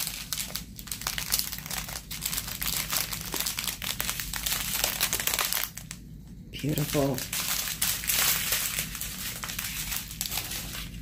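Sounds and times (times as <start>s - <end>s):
plastic packets crinkling: 0.0s - 6.0s, 6.6s - 11.0s.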